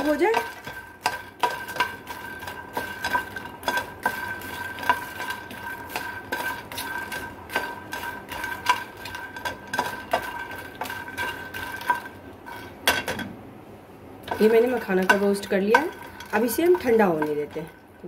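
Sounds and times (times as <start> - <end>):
spatula scraping in dry pan: 0.0 - 12.7, 14.3 - 17.8.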